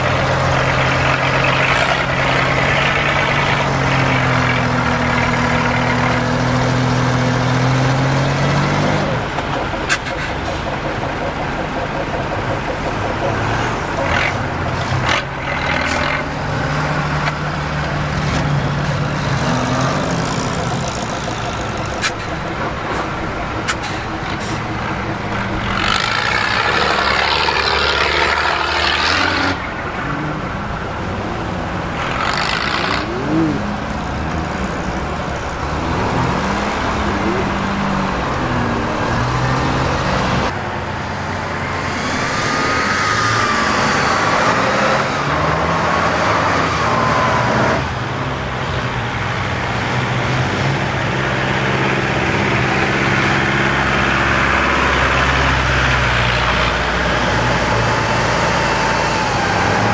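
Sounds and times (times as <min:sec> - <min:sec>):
off-road vehicle engine under load: 0:00.0 - 0:59.9.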